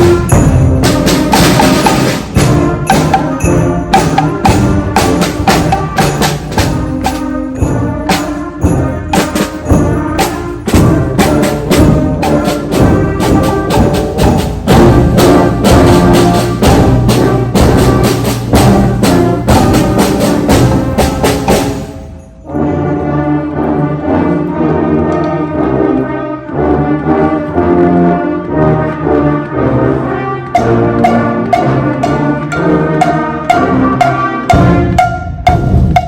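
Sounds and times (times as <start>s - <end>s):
percussion hits: 0.0s - 23.8s, 27.5s - 36.0s
concert band playing: 0.0s - 36.0s
held brass notes: 0.0s - 36.0s.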